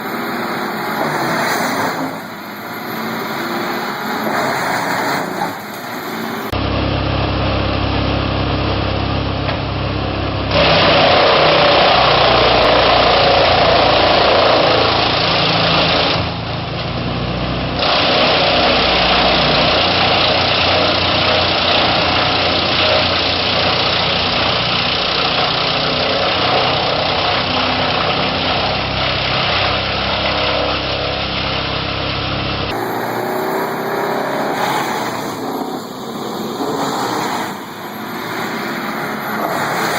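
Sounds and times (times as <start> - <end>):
wood chipper engine hum: 0.0 - 39.9
wood chipper grinding: 0.0 - 39.9.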